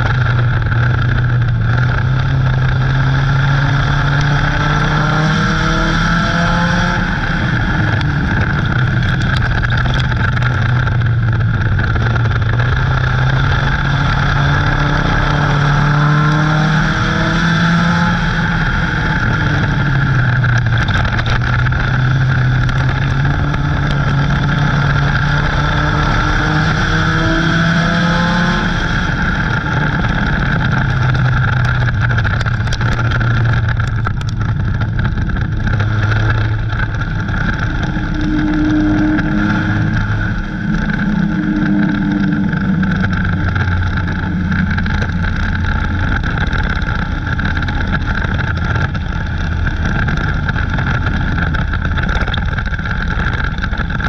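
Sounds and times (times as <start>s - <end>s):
heavy rushing noise: 0.0s - 54.0s
race car engine: 0.0s - 54.0s.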